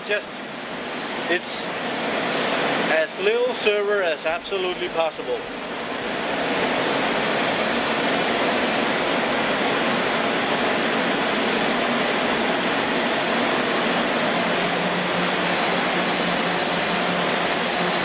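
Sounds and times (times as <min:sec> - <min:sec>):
cooling fans rushing: 0:00.0 - 0:18.0.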